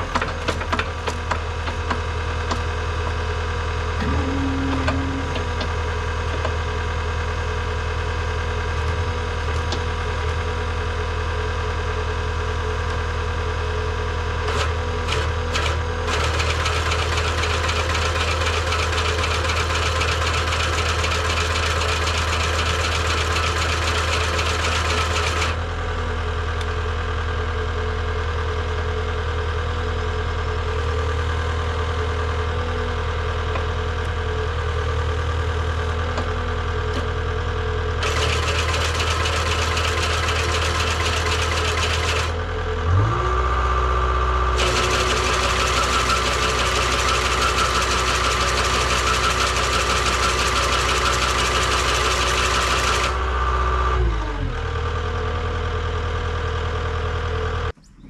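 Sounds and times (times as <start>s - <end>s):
engine running steadily: 0.0s - 58.0s.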